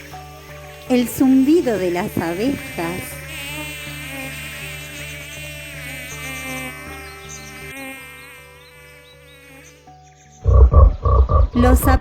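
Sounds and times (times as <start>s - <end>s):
bees buzzing: 0.3s - 9.8s, 10.4s - 12.0s.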